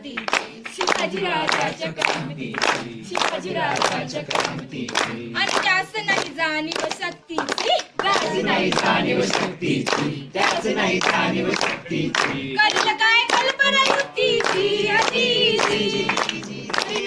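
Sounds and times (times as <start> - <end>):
hand claps: 0.0 - 17.0
women singing together: 0.0 - 17.0.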